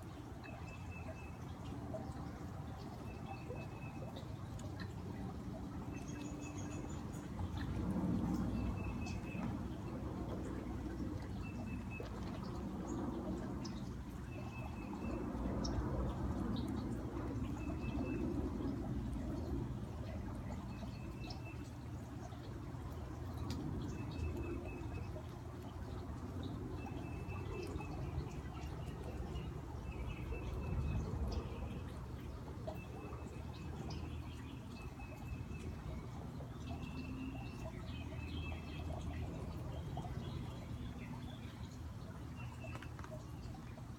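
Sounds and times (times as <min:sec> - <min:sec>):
fountain water running: 0:00.0 - 0:43.9.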